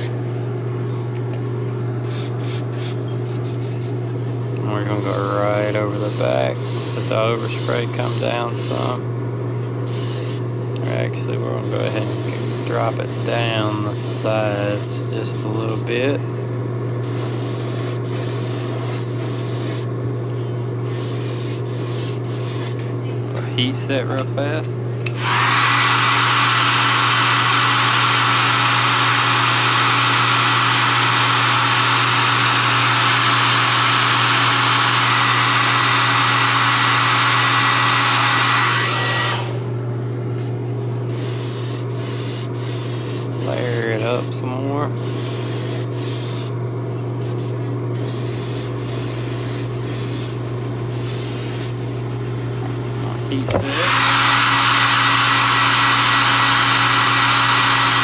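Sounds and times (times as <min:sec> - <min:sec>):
heat gun blowing with whine: 0:02.0 - 0:04.0, 0:04.6 - 0:09.1, 0:09.8 - 0:16.2, 0:17.0 - 0:20.0, 0:20.8 - 0:22.8, 0:25.0 - 0:39.7, 0:40.4 - 0:51.8, 0:53.3 - 0:58.0.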